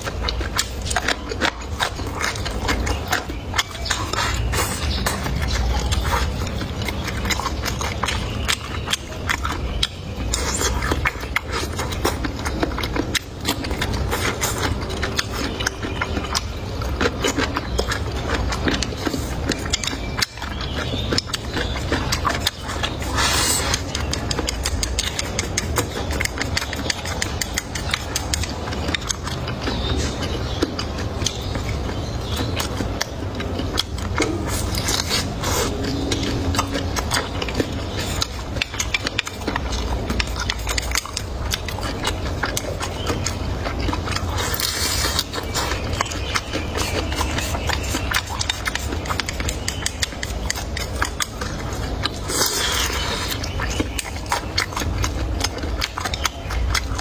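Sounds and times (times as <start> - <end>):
chewing and crunching food: 0.0 - 57.0
steady low hum: 0.0 - 57.0.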